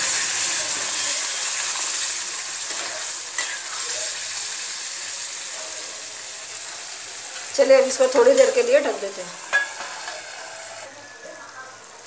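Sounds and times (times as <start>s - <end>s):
gravy sizzling: 0.0s - 12.0s.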